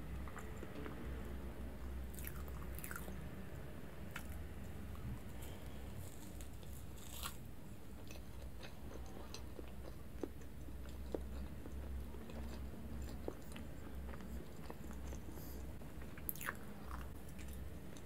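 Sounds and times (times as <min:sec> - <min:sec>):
faint low hum: 0:00.0 - 0:18.0
chewing soft cake: 0:02.1 - 0:03.2, 0:04.1 - 0:18.0.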